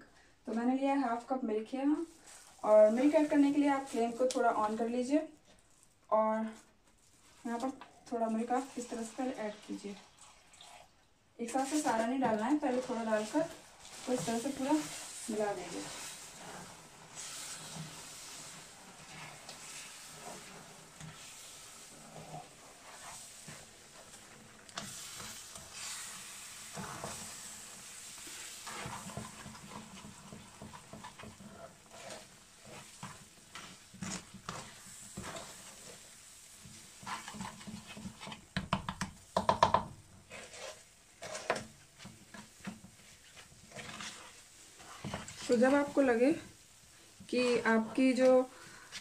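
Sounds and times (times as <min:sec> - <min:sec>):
soft sizzle from hot pan: 0:00.0 - 0:49.0
spatula scraping frying pan: 0:07.5 - 0:49.0.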